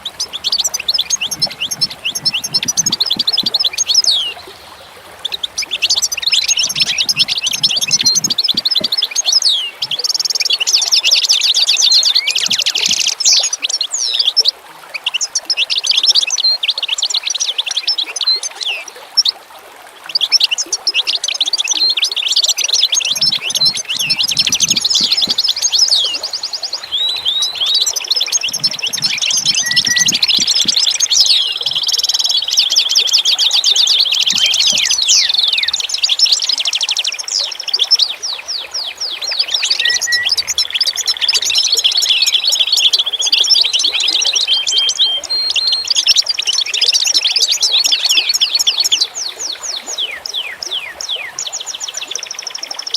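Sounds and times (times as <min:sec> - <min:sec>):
songbirds singing and trilling: 0:00.0 - 0:52.9.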